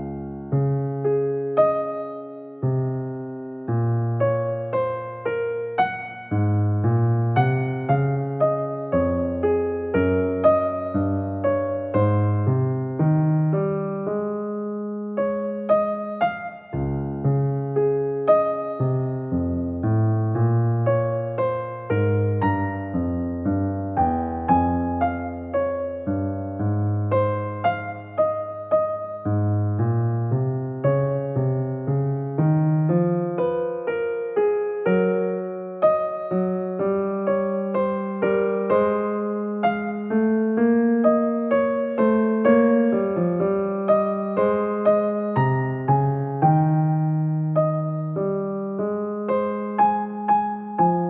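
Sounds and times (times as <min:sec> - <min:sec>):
slow keyboard piece: 0:00.0 - 0:51.0.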